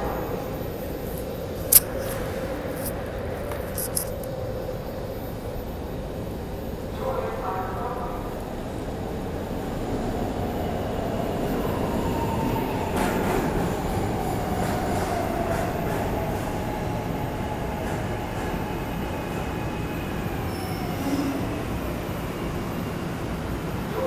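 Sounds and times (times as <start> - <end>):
subway train rumbling: 0.0 - 24.0
train whine: 0.0 - 24.0.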